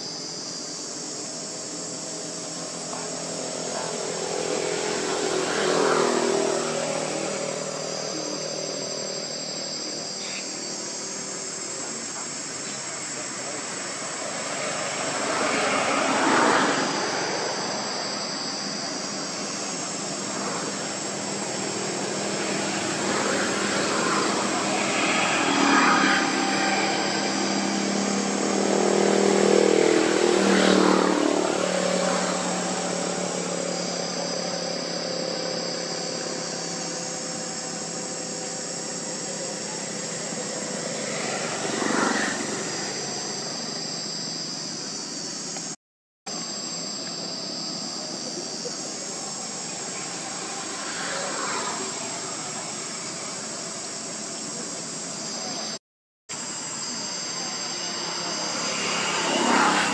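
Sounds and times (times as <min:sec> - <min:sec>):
motor engines passing: 0:00.0 - 0:45.8, 0:47.6 - 0:55.8, 0:56.4 - 0:59.9
high-pitched insect drone: 0:00.0 - 0:59.9.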